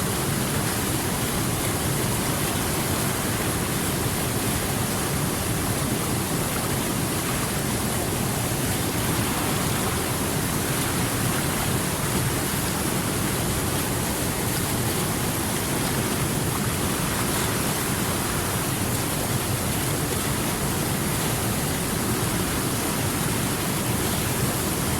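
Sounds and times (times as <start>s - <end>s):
river water rushing: 0.0s - 24.9s.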